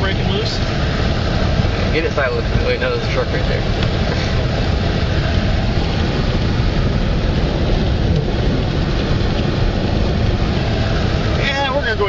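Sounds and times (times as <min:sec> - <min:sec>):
pickup truck driving on snow: 0:00.0 - 0:12.0.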